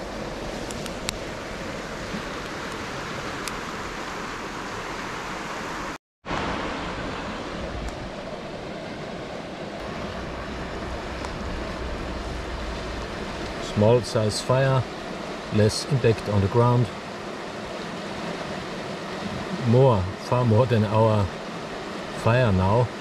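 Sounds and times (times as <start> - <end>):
shallow river over gravel: 0.0 - 23.0.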